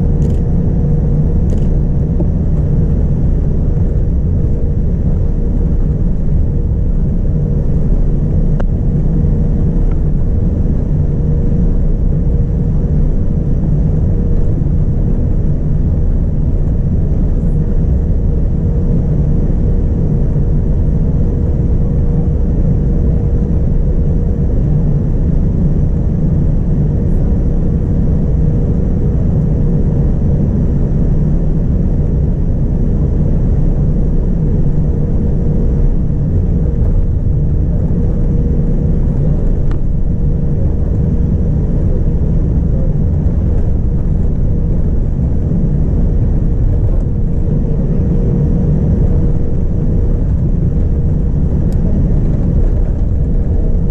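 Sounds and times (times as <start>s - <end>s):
aircraft cabin engine rumble: 0.0s - 53.9s
faint constant hum: 0.0s - 53.9s.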